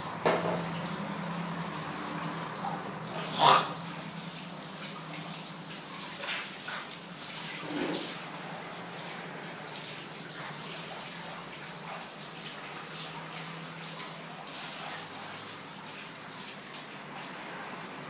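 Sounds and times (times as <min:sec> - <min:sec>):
water running and splashing: 0:00.0 - 0:18.0.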